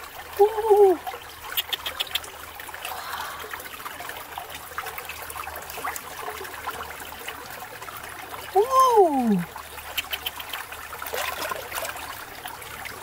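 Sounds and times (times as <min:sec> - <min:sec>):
small splashes and drips: 0:00.0 - 0:13.0
water trickling into a pool: 0:00.0 - 0:13.0.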